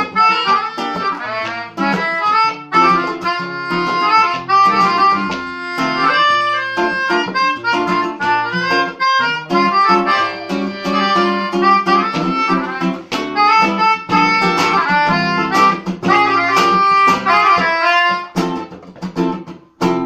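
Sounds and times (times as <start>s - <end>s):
melodica melody: 0.0s - 19.3s
classical guitar playing: 0.0s - 20.0s.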